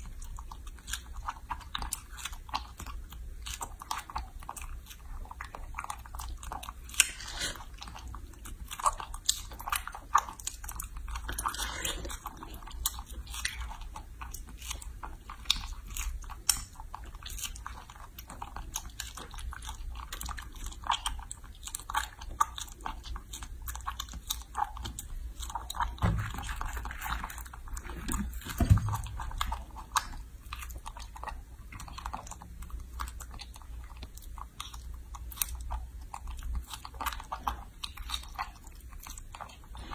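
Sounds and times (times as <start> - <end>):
monkey chewing wet smacks: 0.0 - 39.9.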